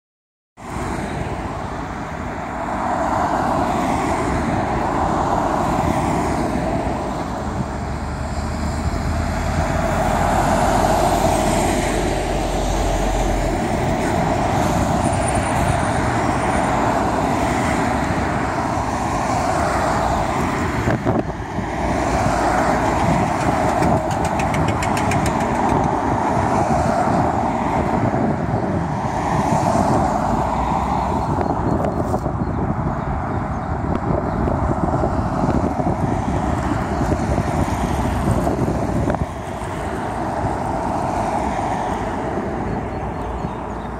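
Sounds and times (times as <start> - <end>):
cars and lorries driving past: 0.6 - 43.9.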